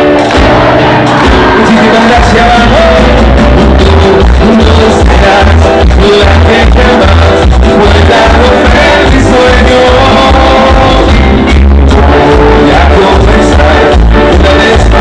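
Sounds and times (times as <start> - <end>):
latin dance music with singing: 0.0 - 15.0.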